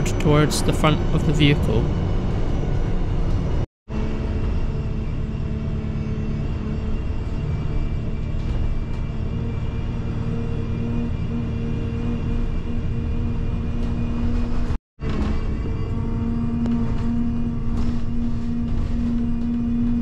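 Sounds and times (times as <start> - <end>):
bus interior rumble: 0.0 - 20.0
constant hum: 0.0 - 20.0.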